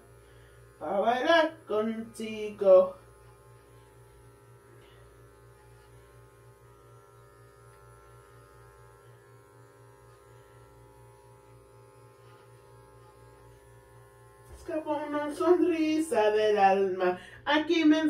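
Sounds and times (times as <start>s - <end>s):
electric clippers humming: 0.0s - 17.2s.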